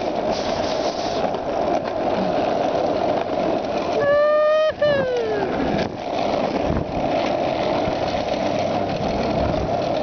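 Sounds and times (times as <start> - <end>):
skateboard wheels rolling on asphalt: 0.0 - 10.0.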